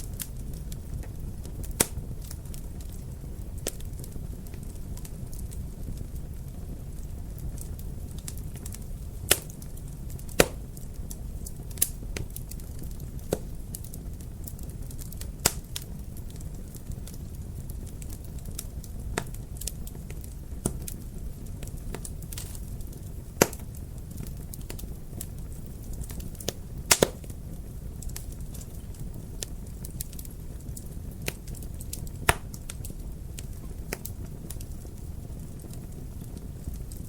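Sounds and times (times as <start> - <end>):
loud fire pops: 0.0 - 37.0
low rumble of burning: 0.0 - 37.0
wood fire crackling: 0.0 - 37.0.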